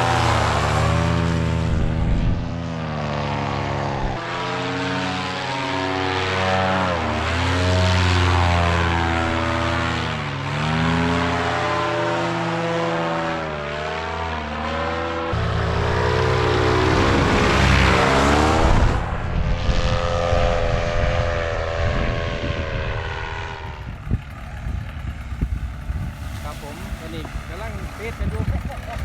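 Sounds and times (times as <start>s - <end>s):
two-stroke engine and propeller revving: 0.0s - 29.0s.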